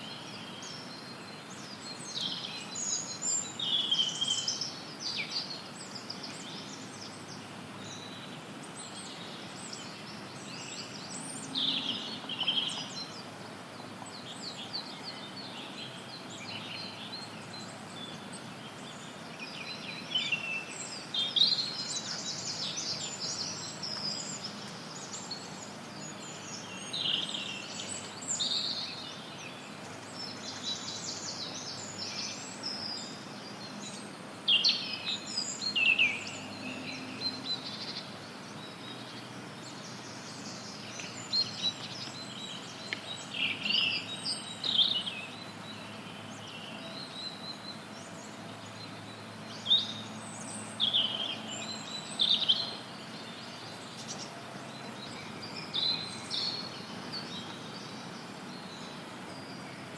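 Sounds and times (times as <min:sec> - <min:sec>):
songbirds chirping and singing: 0:00.0 - 0:59.9
white noise hiss: 0:00.0 - 0:59.9.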